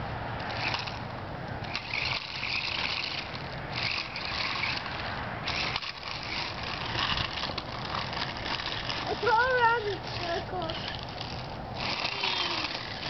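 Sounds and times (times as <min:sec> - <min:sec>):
toy car motors whirring: 0:00.4 - 0:13.0.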